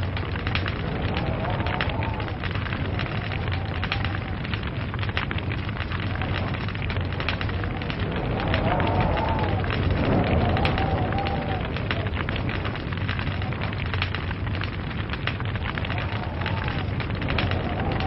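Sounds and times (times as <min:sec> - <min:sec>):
log fire crackling: 0:00.0 - 0:18.0.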